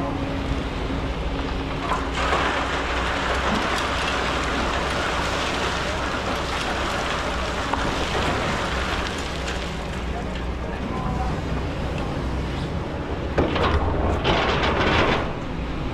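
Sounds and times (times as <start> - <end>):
excavator diesel engine droning: 0.0 - 15.9.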